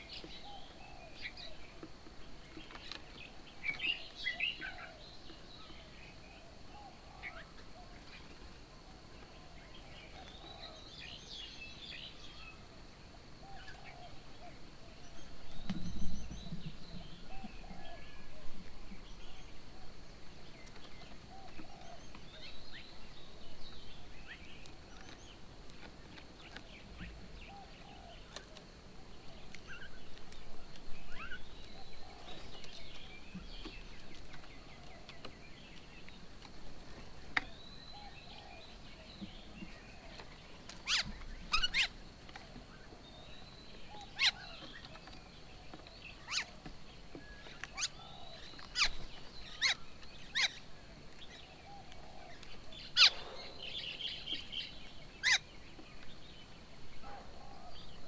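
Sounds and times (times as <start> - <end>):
birds calling and chirping: 0.0 - 58.0.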